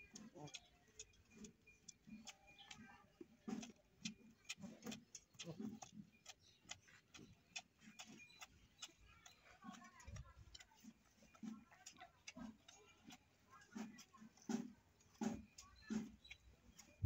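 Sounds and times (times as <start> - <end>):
cow tongue licking: 0.0 - 17.0.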